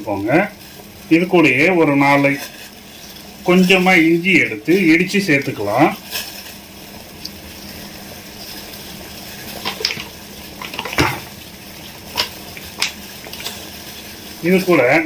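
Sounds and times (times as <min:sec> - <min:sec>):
water boiling: 0:00.0 - 0:15.0.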